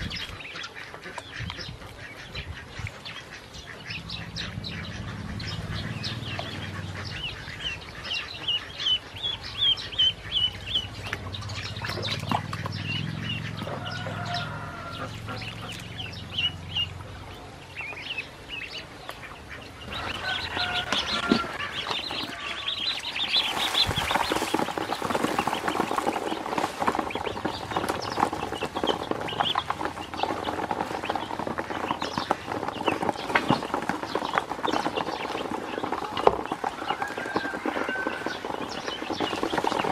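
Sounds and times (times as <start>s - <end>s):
bills pecking grain in plastic basin: 0.0s - 39.9s
ducklings peeping: 0.0s - 39.9s.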